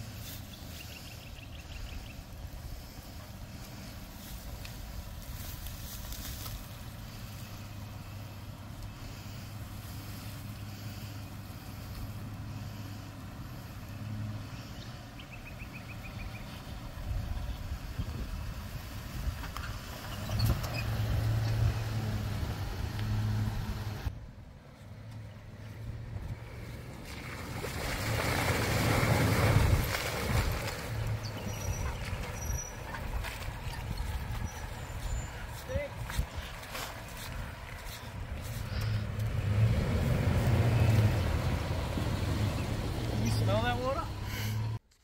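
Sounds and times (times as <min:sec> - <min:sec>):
vehicle engine running low: 0:00.0 - 0:44.8.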